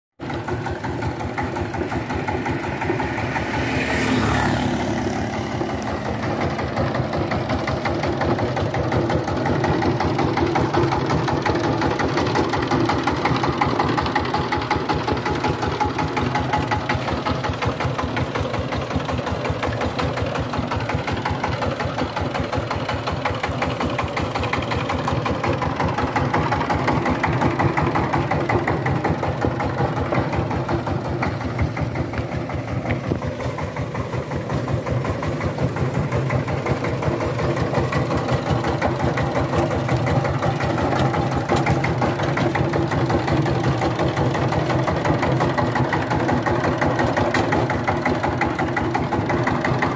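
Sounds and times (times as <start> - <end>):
diesel engine running: 0.2 - 49.9.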